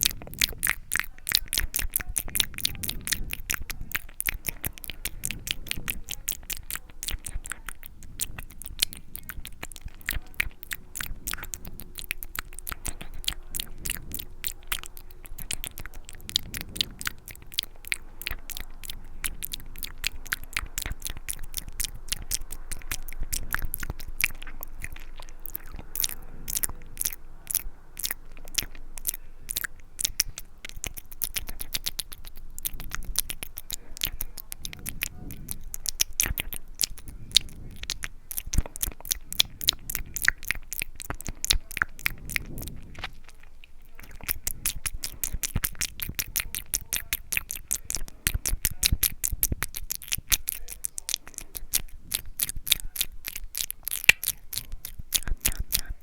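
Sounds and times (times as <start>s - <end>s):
wet mouth clicks and smacks: 0.0s - 56.0s.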